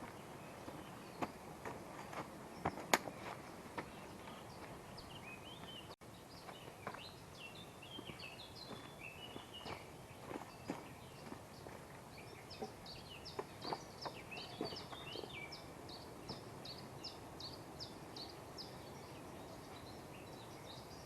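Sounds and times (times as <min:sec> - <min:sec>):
bird singing: 0:00.0 - 0:21.0
steady outdoor hiss: 0:00.0 - 0:21.0.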